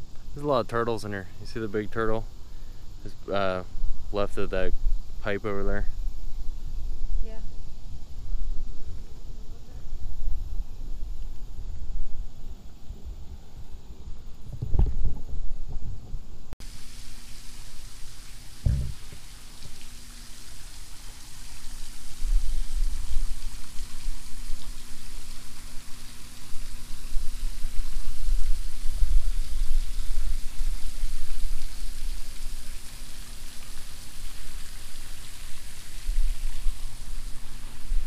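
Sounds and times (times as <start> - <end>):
steady hiss: 0.0 - 38.0.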